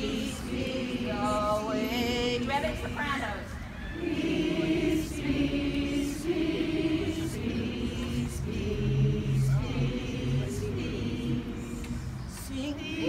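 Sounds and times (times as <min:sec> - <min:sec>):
crowd singing unaccompanied: 0:00.0 - 0:13.0.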